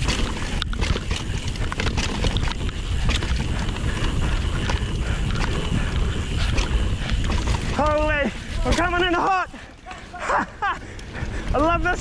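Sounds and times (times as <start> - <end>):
bike rattling clicks and knocks: 0.0 - 12.0
tyres on rough dirt trail: 0.0 - 12.0
wind buffeting microphone: 0.0 - 12.0.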